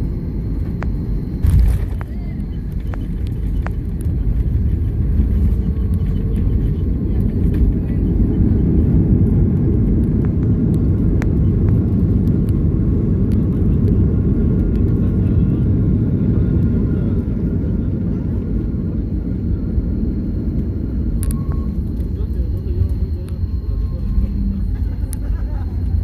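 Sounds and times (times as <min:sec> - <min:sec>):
airliner rumbling down runway: 0:00.0 - 0:26.0.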